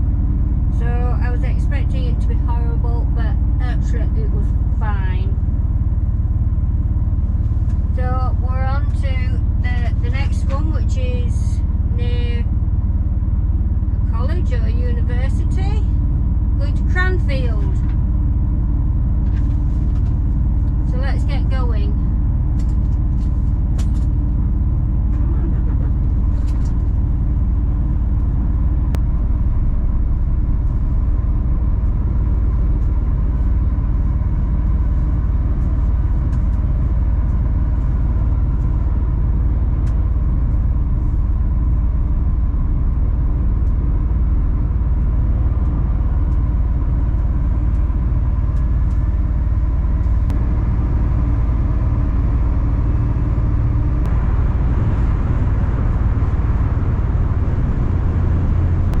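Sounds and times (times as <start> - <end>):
lorry diesel engine drone: 0.0 - 59.0
road rumble: 0.0 - 59.0.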